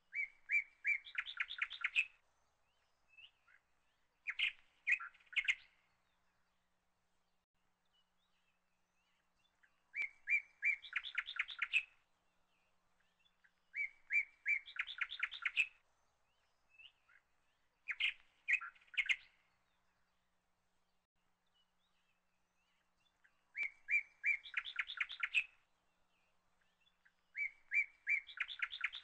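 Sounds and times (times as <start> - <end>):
songbird singing: 0.0 - 29.0.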